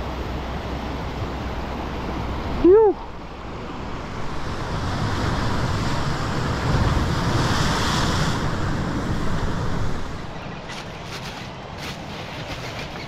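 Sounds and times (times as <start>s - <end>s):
wind rumbling on microphone: 0.0s - 13.0s
surf washing over rocky shore: 1.3s - 13.0s.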